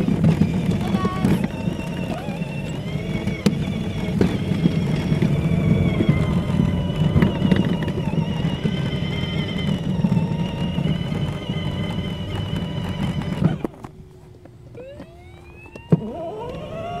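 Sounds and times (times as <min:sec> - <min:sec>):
toy electric motor whining: 0:00.0 - 0:13.9, 0:14.7 - 0:17.0
plastic wheels rumbling on concrete: 0:00.0 - 0:17.0.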